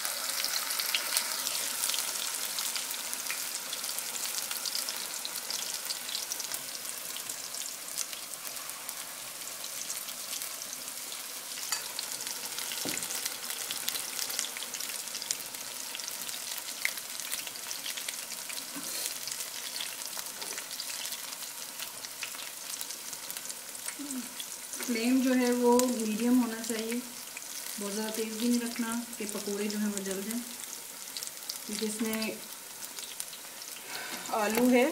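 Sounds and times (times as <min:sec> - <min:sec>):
food deep-frying in oil: 0:00.0 - 0:34.9.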